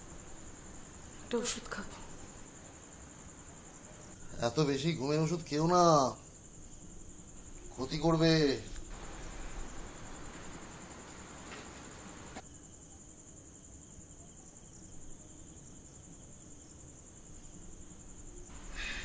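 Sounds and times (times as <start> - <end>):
background hiss: 0.0 - 19.0
crickets trilling: 0.0 - 19.0.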